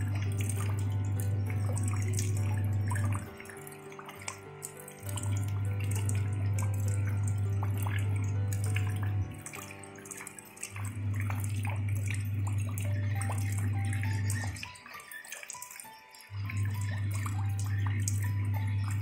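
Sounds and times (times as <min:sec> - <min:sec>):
faint music notes: 0:00.0 - 0:19.0
rain falling into puddle: 0:00.0 - 0:19.0.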